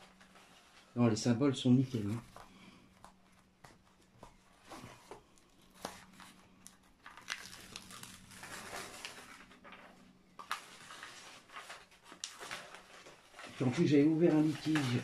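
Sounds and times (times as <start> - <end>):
plastic film rustling and crinkling: 1.6 - 15.0.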